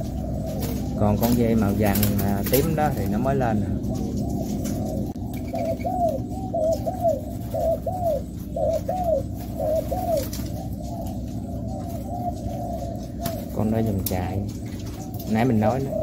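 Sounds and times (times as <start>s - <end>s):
doves cooing: 0.0s - 16.0s.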